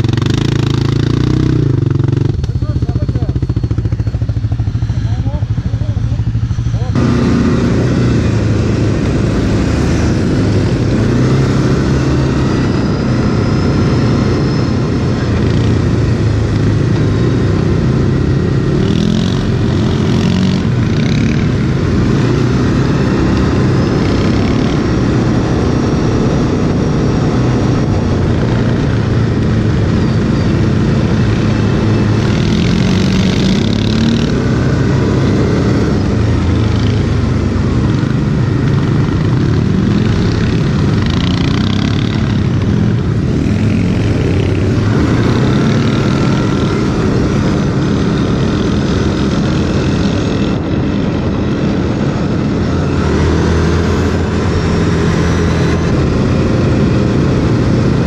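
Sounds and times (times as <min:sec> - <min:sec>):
quad engine revving: 0:00.0 - 0:58.0
rushing noise: 0:00.0 - 0:58.0.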